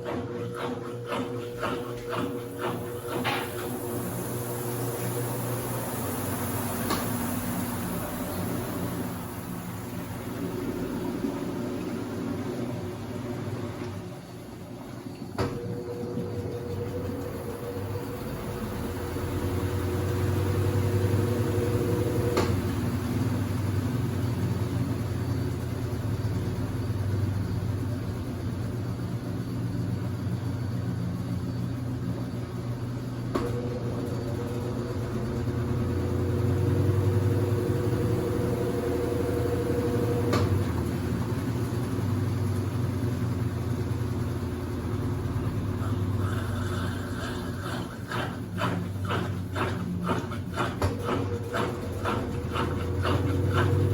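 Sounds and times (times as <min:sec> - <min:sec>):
motor whine: 0:00.0 - 0:53.9
washing machine hum: 0:00.0 - 0:53.9.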